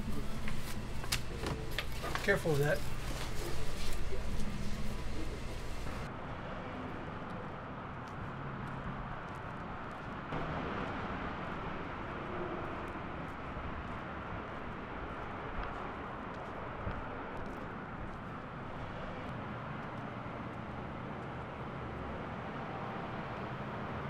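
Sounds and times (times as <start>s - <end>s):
distant traffic hum: 0.0s - 24.0s.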